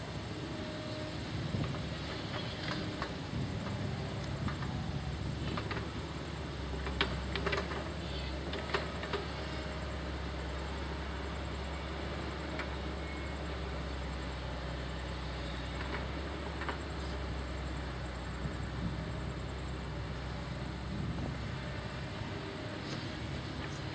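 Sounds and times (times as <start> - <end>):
diesel machinery running: 0.0 - 23.9.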